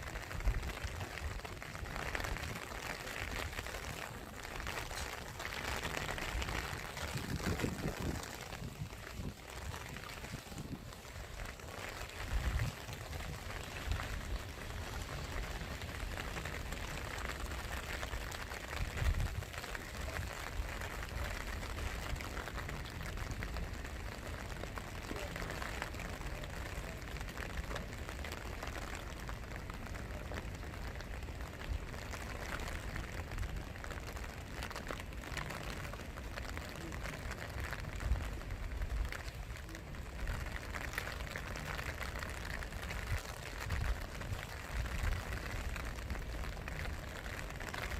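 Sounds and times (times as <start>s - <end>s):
rain pattering on hard surfaces: 0.0s - 47.9s.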